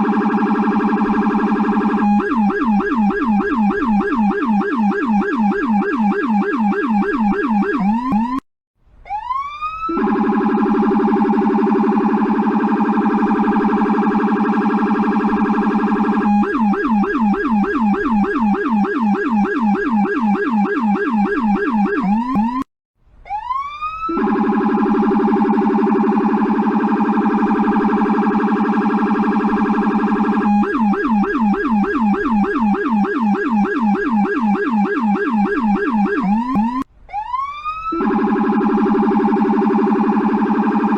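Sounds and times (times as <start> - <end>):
electronic police siren: 0.0 - 8.4, 9.0 - 40.9.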